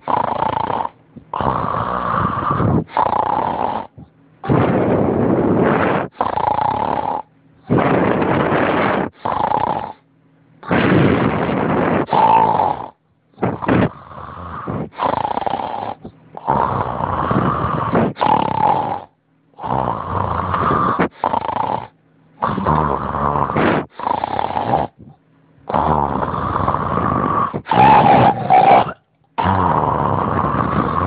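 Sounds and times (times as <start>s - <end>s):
loud rough snoring: 0.0s - 31.0s.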